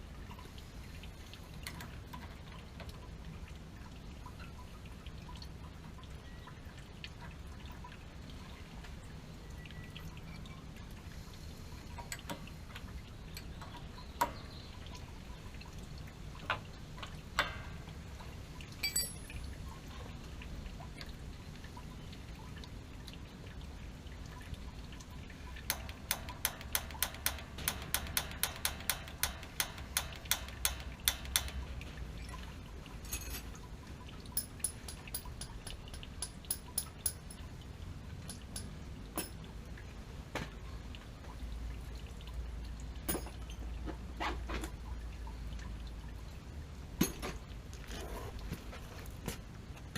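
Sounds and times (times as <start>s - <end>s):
water dripping and trickling: 0.0s - 49.9s.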